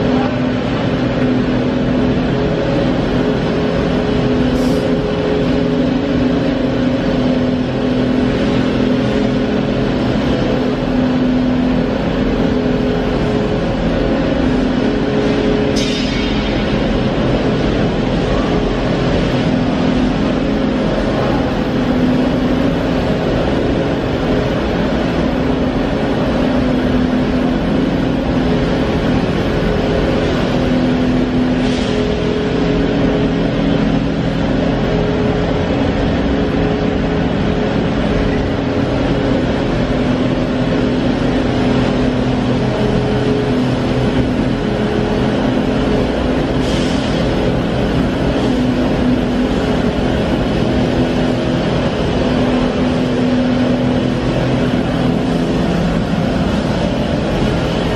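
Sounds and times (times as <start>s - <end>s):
industrial machinery drone: 0.0s - 57.9s.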